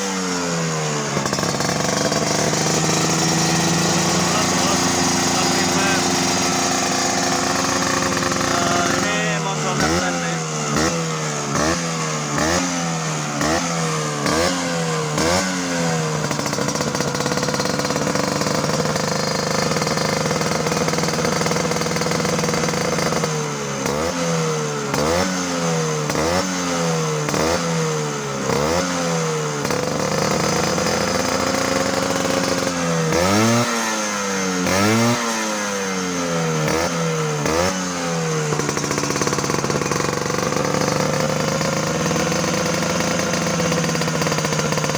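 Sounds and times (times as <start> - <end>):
scooter engine revving and idling: 0.0 - 44.9.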